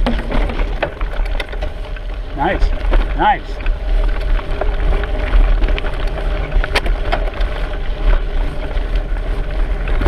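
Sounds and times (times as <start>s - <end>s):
small rattles and ticks: 0.0s - 10.0s.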